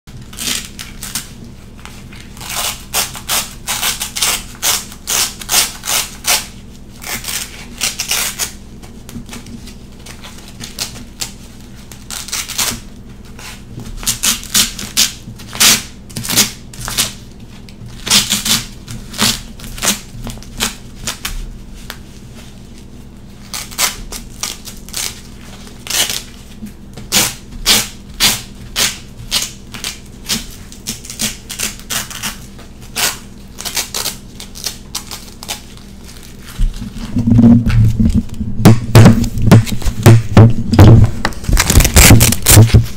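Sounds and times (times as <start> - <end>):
velcro straps ripping: 0.2 - 8.6, 12.0 - 17.2, 18.0 - 22.0, 23.4 - 42.9.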